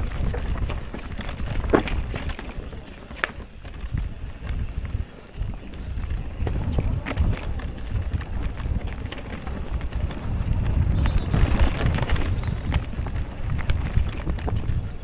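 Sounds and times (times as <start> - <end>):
bike tyres knocking and clattering: 0.0 - 15.0
wind rumbling on microphone: 0.0 - 15.0.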